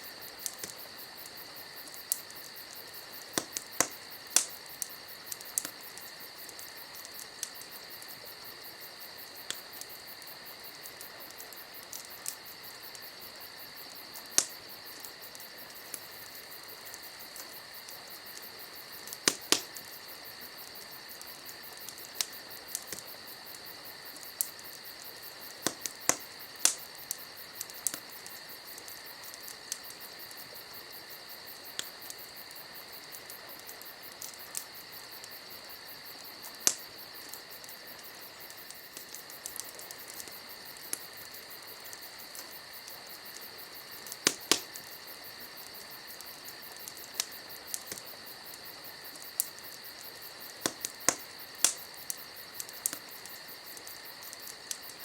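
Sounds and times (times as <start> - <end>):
campfire crackling: 0.0 - 55.0
insect chirring: 0.0 - 55.0.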